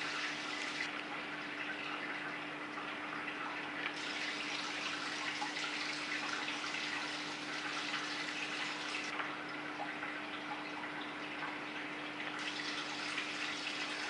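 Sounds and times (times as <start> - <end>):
pump humming: 0.0 - 14.0
water trickling and splashing: 0.0 - 14.0.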